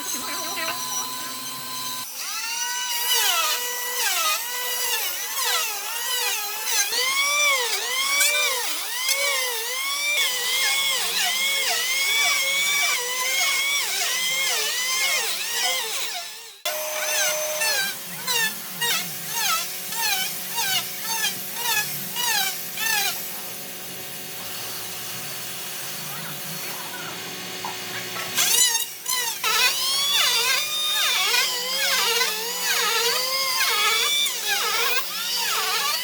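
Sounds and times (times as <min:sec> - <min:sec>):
power tool cutting wood: 0:00.0 - 0:36.0.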